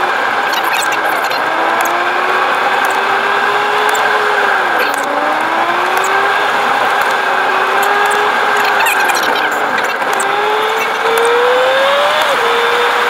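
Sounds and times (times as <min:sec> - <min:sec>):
car engine and tyre drone: 0:00.0 - 0:13.0
whine dipping in pitch: 0:00.4 - 0:11.7.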